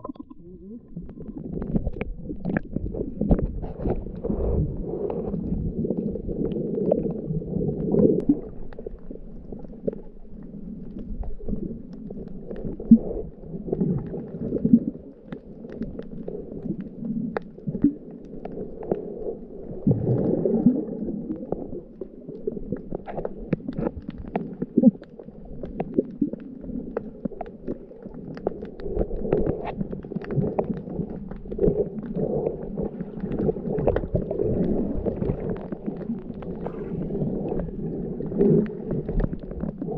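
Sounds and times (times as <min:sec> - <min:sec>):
faint clicks and crackles: 0:00.0 - 0:39.9
muffled underwater churning: 0:00.0 - 0:39.9.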